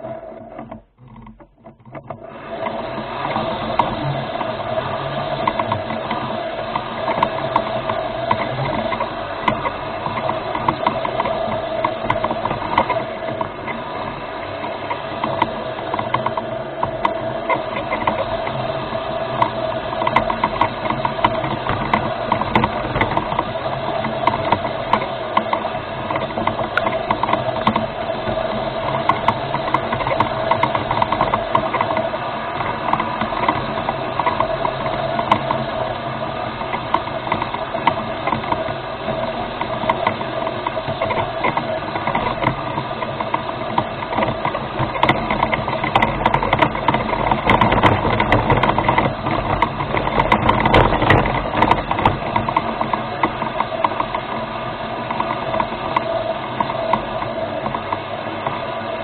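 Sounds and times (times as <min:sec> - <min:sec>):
electric motors and gears whining: 0:00.0 - 0:59.0
fast rattle of running gear: 0:00.0 - 0:59.0.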